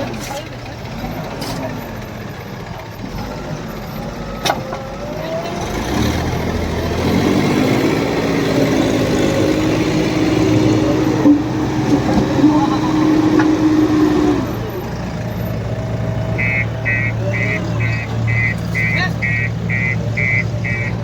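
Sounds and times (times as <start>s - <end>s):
tractor diesel engine working hard: 0.0s - 21.0s.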